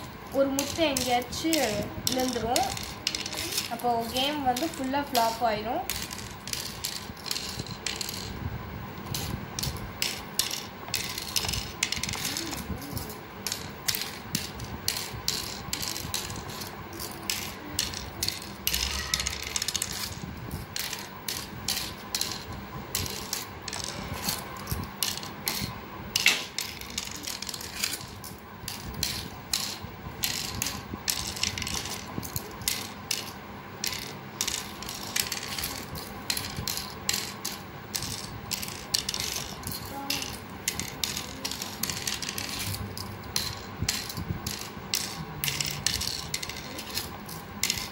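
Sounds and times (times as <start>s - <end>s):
shells clicking into board cups: 0.0s - 8.4s, 9.0s - 47.9s.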